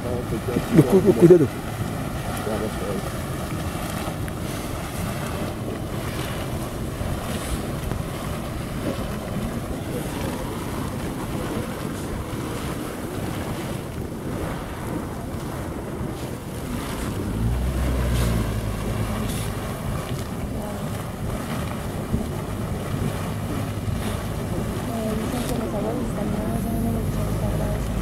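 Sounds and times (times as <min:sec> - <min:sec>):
geyser rushing steam and water: 0:00.0 - 0:28.0
wind buffeting microphone: 0:00.0 - 0:28.0.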